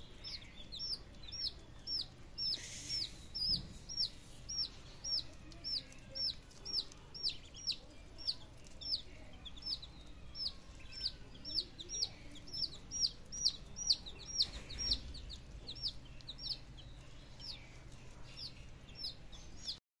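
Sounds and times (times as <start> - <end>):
chicks and ducklings peeping: 0.0 - 19.8.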